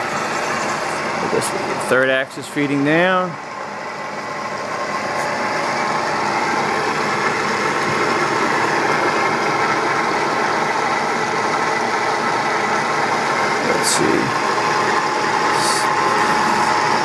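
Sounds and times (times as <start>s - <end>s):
milling machine whirring: 0.0s - 17.0s.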